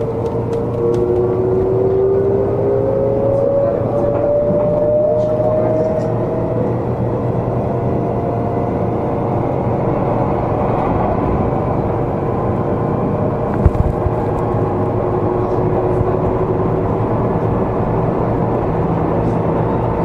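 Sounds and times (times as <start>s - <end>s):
train wheel and rail rumble: 0.0s - 20.0s.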